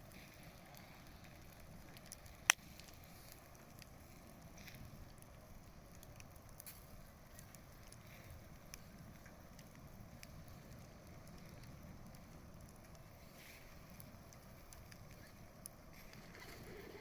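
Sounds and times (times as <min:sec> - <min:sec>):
bonfire crackling and popping: 0:00.0 - 0:17.0.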